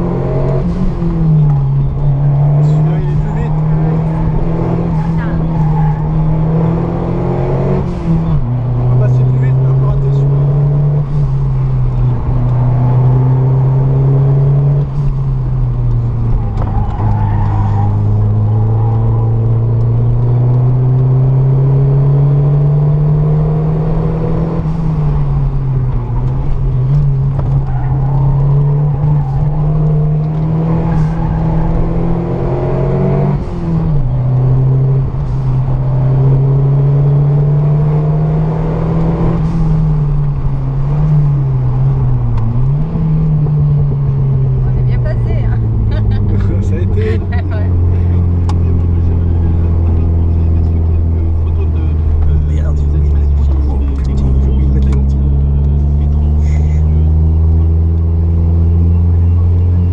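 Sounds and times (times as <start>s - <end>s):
car engine accelerating hard: 0.0s - 59.9s.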